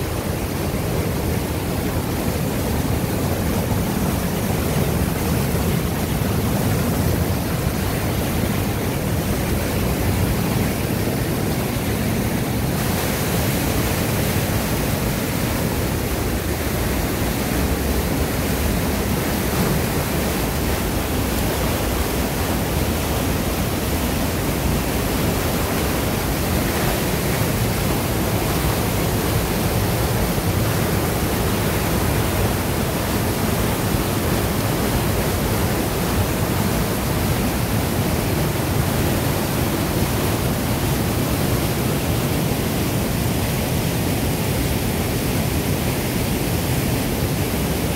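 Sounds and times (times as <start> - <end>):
waterfall rushing over rocks: 0.0 - 47.9.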